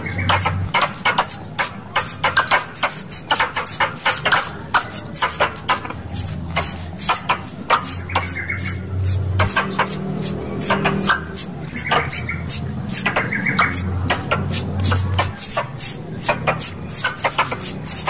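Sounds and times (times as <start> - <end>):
squirrel chirping: 0.0 - 18.0.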